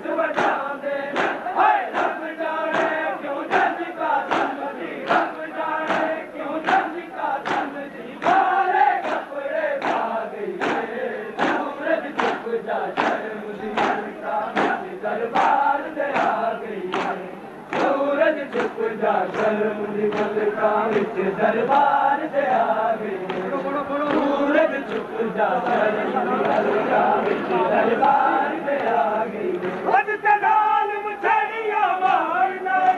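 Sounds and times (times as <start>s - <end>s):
crowd of men chanting: 0.0s - 32.9s.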